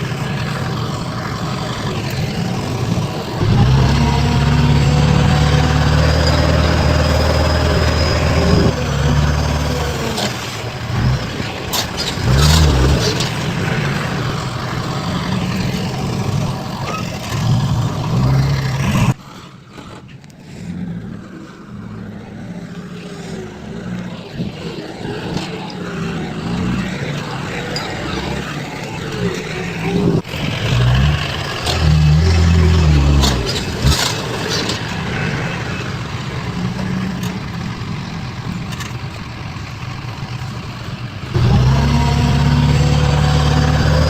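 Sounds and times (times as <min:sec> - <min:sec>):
construction machinery engines running: 0:00.0 - 0:44.0.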